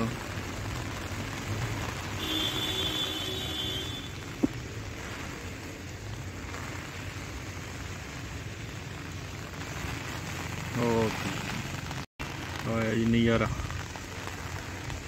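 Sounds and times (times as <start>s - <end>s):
heavy rain on grass: 0.0s - 15.0s.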